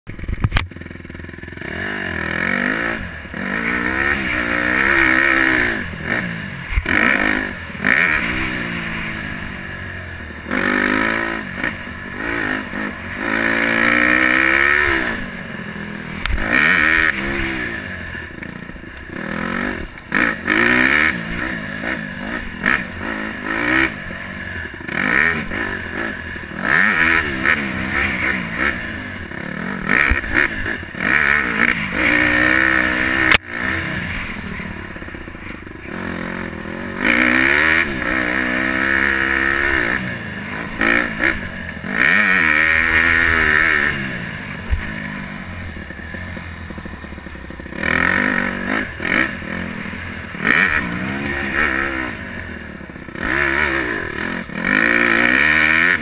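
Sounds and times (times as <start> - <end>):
dirt bike engine revving: 0.1 - 56.0.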